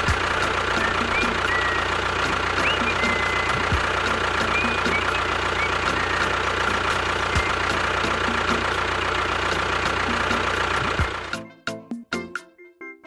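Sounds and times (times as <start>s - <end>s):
engine idling: 0.0s - 11.5s.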